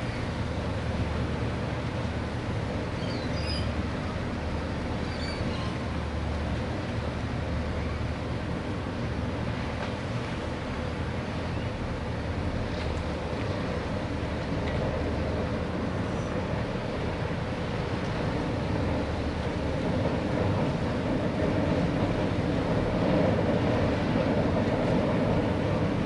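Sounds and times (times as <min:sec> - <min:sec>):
distant ferry engine rumble: 0:00.0 - 0:26.0.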